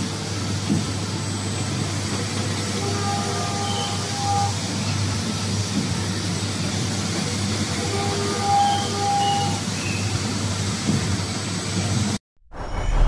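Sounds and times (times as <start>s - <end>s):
industrial machinery hum and hiss: 0.0s - 12.2s.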